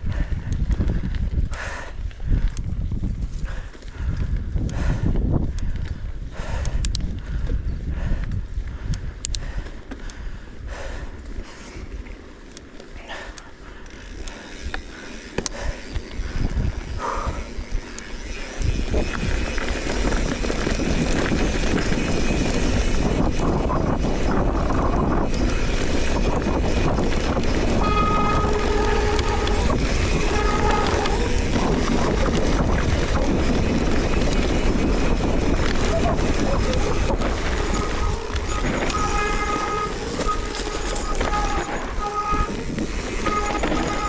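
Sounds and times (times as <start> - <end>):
bike rattling over rough ground: 0.0 - 44.0
wind and rolling noise: 0.0 - 44.0.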